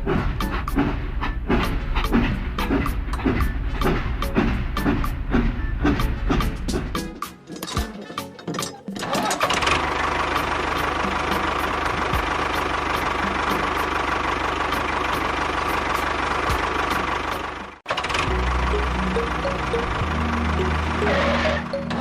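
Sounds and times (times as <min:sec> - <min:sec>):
small engine knocking: 0:00.1 - 0:22.0.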